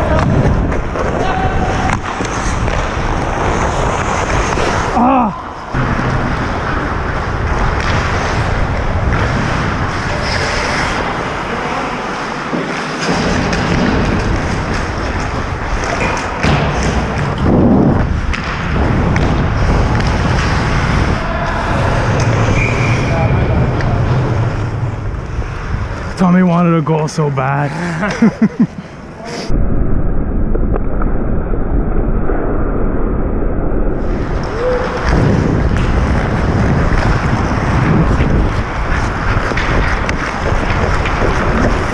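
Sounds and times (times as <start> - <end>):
steady rushing noise: 0.0 - 41.9
skate blades scraping ice: 0.1 - 26.7, 34.0 - 41.9.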